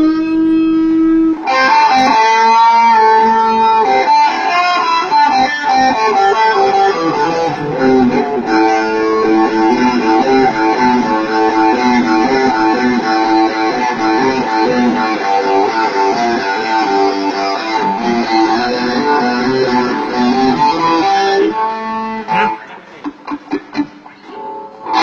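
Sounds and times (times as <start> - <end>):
guitar ringing chords: 0.0 - 25.0.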